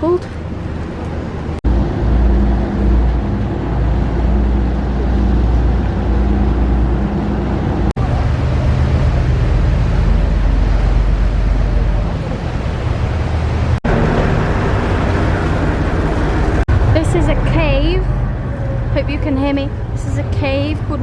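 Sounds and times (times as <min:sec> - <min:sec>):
boat engine humming: 0:00.0 - 0:21.0
water wash: 0:00.0 - 0:21.0.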